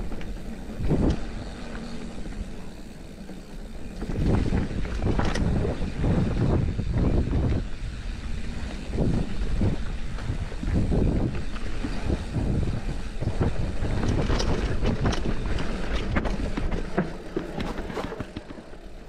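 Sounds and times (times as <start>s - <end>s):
bike clicks and rattles: 0.0s - 19.0s
tyres rumbling over dirt: 0.0s - 19.0s
wind buffeting microphone: 0.0s - 19.0s.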